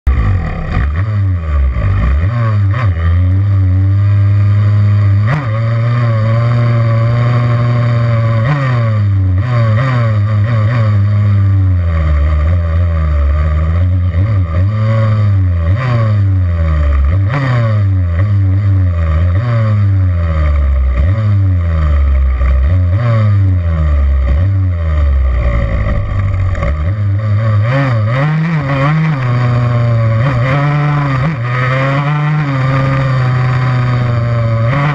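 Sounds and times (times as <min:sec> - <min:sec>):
two-stroke motorcycle engine revving: 0:00.1 - 0:34.9.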